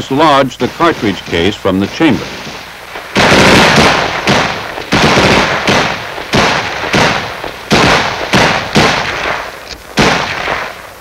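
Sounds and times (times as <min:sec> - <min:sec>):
gunfire with echoing decay: 0:00.6 - 0:11.0.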